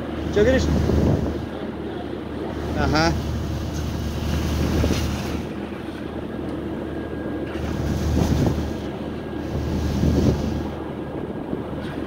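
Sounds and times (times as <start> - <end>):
low ship hum: 0.0 - 12.0
sea water rushing along hull: 0.0 - 12.0
wind buffeting microphone: 0.0 - 12.0.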